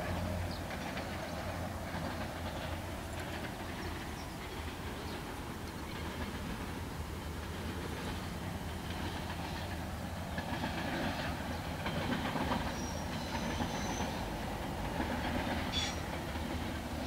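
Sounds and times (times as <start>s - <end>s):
freight train wheels rumbling and rattling: 0.0s - 17.0s.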